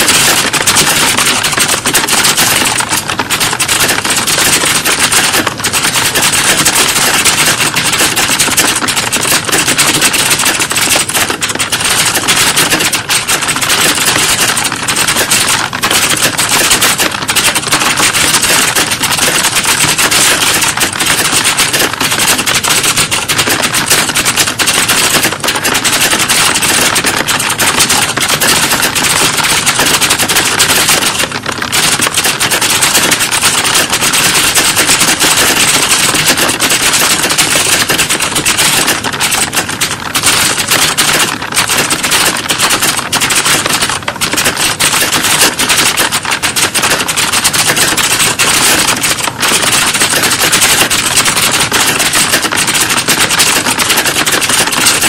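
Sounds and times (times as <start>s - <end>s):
many keyboards clattering: 0.0s - 55.0s.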